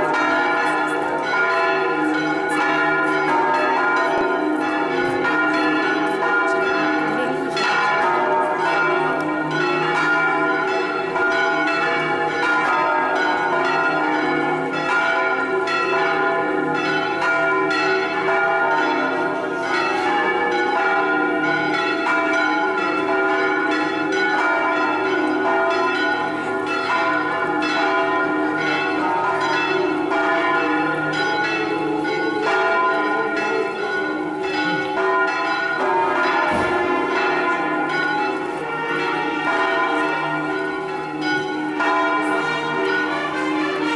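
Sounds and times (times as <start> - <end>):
large church bells pealing: 0.0 - 43.9.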